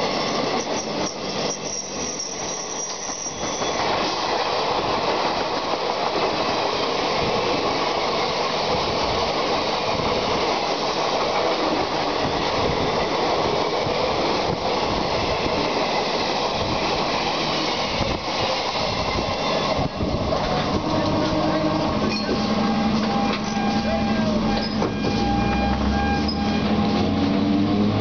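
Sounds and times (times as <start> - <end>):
train rushing rail noise: 0.0 - 28.0.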